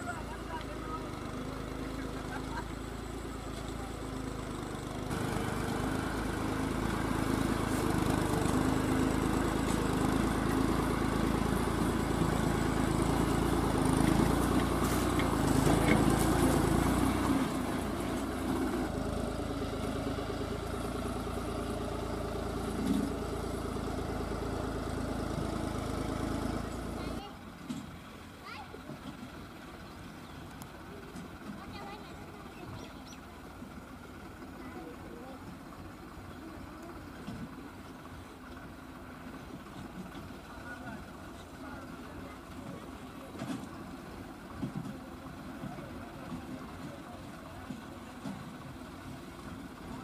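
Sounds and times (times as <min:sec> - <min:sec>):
diesel tractor engine under load: 0:00.0 - 0:50.0.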